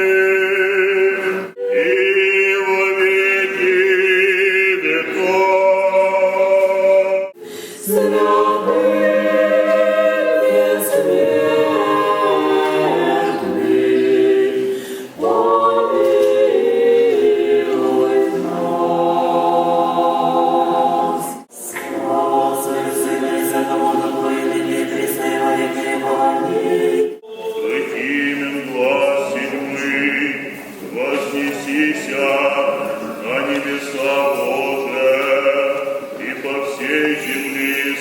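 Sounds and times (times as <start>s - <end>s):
choir chanting a cappella: 0.0s - 38.0s.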